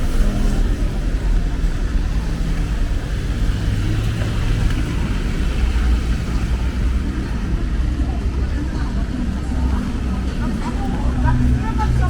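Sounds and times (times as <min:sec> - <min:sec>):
tyres hissing on wet road: 0:00.0 - 0:12.0
vehicle engines running: 0:00.0 - 0:12.0.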